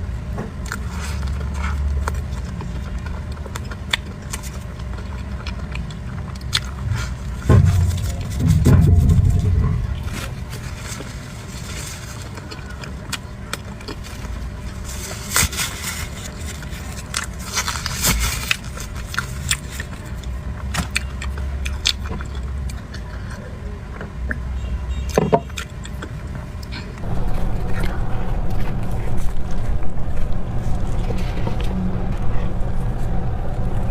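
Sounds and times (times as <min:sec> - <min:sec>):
low steady background hum: 0:00.0 - 0:33.9
biting and chewing: 0:00.4 - 0:28.6.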